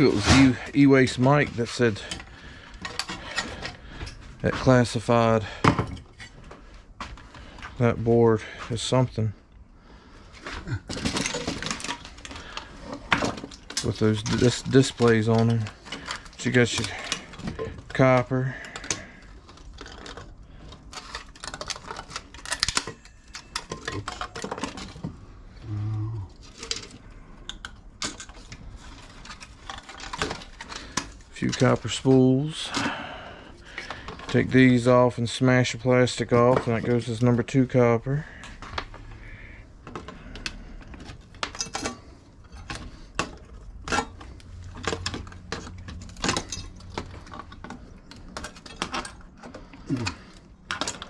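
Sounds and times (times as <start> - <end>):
small parts clicking and clattering: 0.0 - 9.6, 10.2 - 25.2, 26.4 - 51.0
low steady hum: 0.0 - 51.0.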